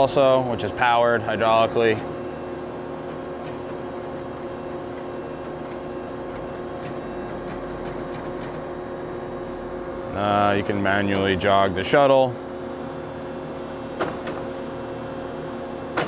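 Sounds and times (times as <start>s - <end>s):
band saw humming: 0.0s - 16.0s.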